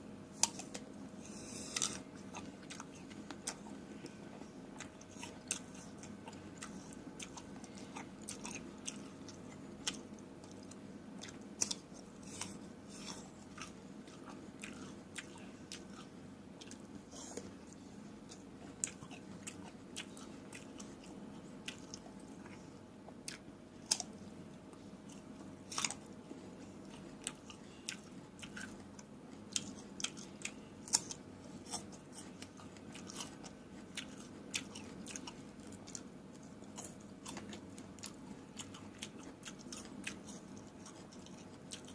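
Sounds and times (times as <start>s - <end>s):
steady low hum: 0.0s - 41.9s
person chewing crunchy fruit: 0.3s - 41.9s.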